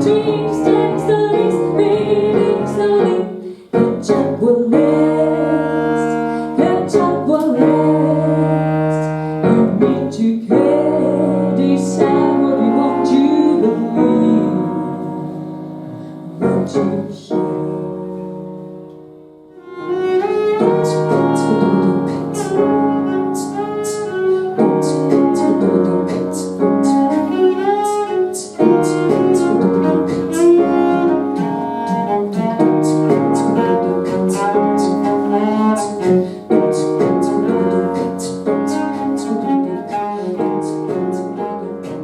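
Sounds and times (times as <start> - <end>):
cello: 0.0 - 42.0
piano: 0.0 - 42.0.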